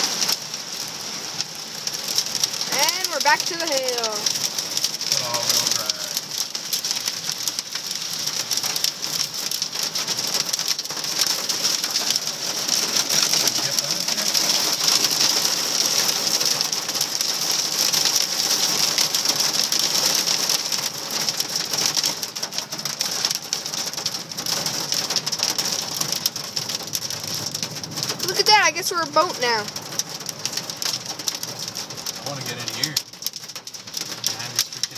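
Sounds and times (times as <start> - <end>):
hail and rain drumming on car: 0.0 - 34.9.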